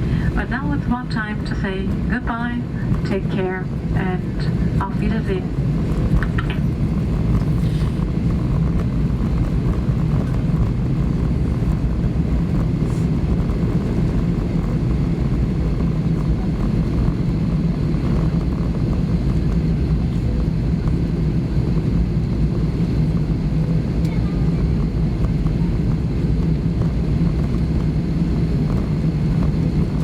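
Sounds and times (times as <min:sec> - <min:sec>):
airplane cabin rumble: 0:00.0 - 0:30.0.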